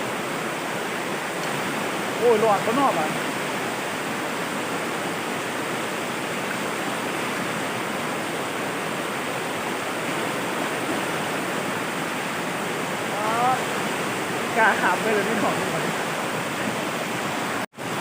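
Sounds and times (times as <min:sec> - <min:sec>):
river rapids rushing: 0:00.0 - 0:18.0.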